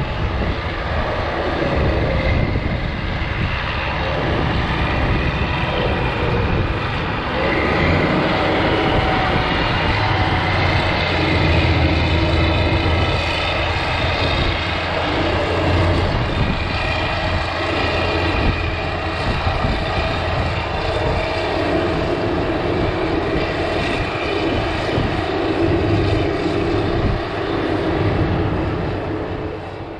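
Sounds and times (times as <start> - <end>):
heavy diesel engines under load: 0.0 - 29.9.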